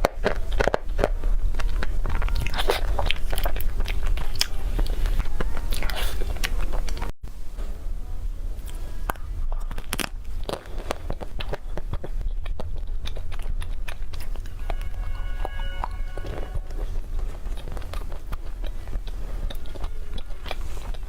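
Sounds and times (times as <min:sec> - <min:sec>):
chewing: 0:00.0 - 0:07.1, 0:08.6 - 0:21.0.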